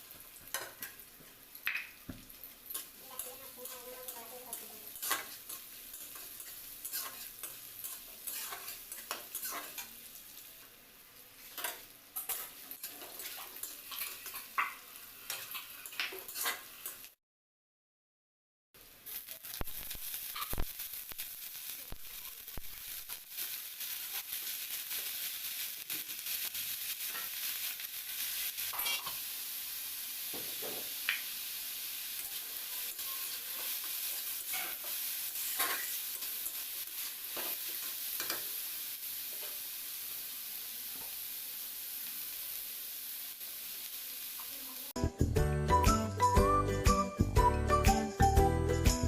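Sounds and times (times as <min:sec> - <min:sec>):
food sizzling in hot oil: 0:00.0 - 0:17.2, 0:18.8 - 0:45.1.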